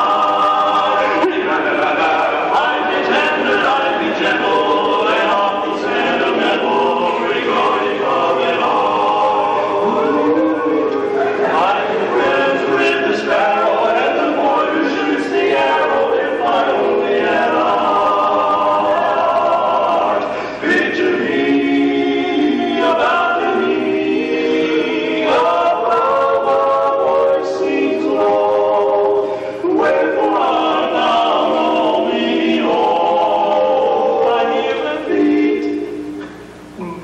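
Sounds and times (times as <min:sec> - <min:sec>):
men singing in harmony: 0:00.0 - 0:36.7.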